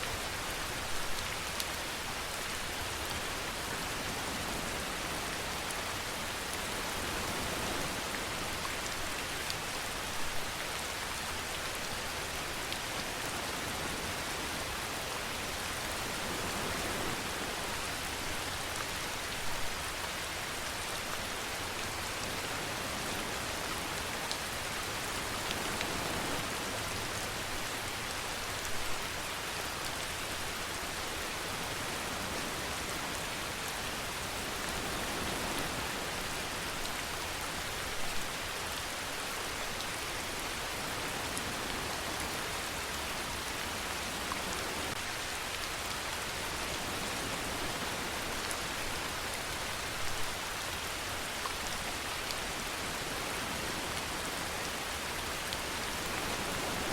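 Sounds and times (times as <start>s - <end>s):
steady rainfall hiss: 0.0s - 56.9s.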